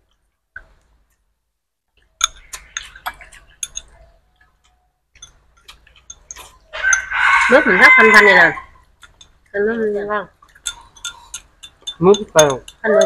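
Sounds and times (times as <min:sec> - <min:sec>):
chopsticks clinking on bowls: 0:02.2 - 0:13.0.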